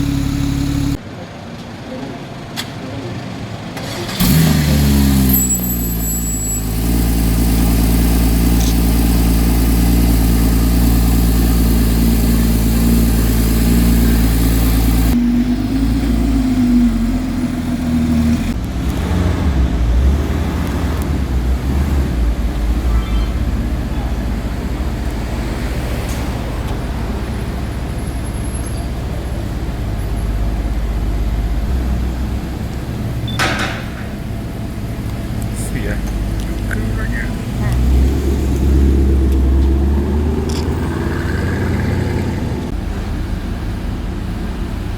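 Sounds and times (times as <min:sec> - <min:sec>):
car engine idling: 0:00.0 - 0:01.1, 0:03.6 - 0:44.9
low uneven engine rumble: 0:00.0 - 0:03.4, 0:07.4 - 0:44.9.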